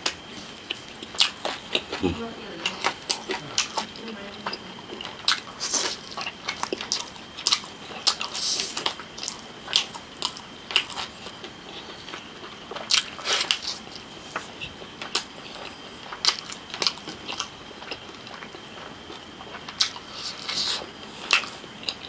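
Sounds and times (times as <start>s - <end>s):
wet biting and chewing: 0.0s - 22.0s.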